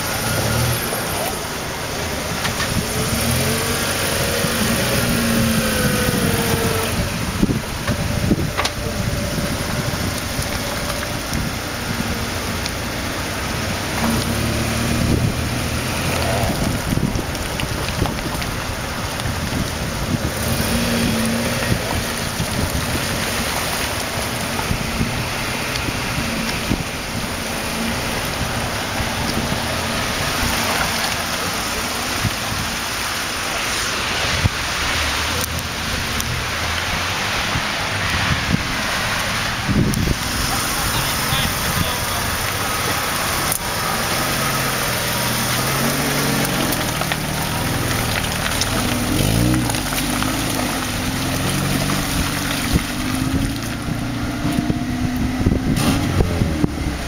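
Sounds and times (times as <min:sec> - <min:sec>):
vehicle engine revving: 0:00.0 - 0:57.0.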